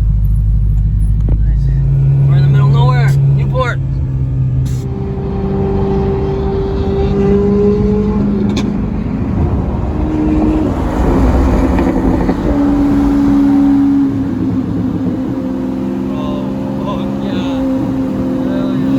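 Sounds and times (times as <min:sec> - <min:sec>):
car engines droning: 0:00.0 - 0:18.9
road rumble: 0:00.0 - 0:18.9.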